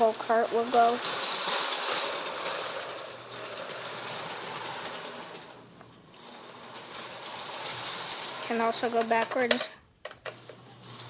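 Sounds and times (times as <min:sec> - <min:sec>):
toy train motor whir: 0:00.0 - 0:11.0
wheel clatter: 0:00.0 - 0:11.0.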